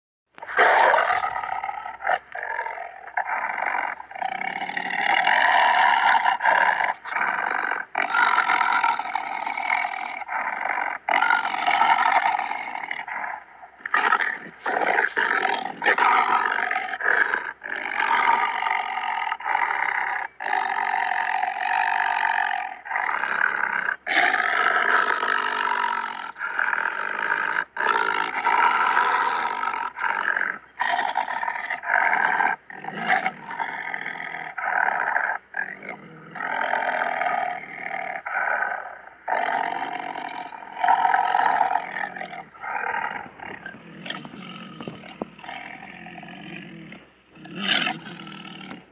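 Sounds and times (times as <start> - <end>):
tiger growling and roaring: 0.4 - 48.9.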